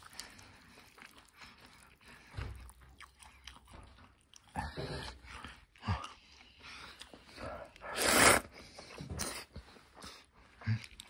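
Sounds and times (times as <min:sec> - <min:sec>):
person chewing noodles: 0:00.0 - 0:11.0.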